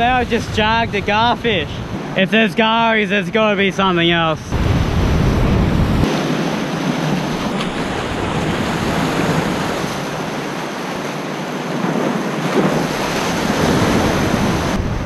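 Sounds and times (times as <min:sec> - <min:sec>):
surf breaking over rocks: 0:00.0 - 0:15.0.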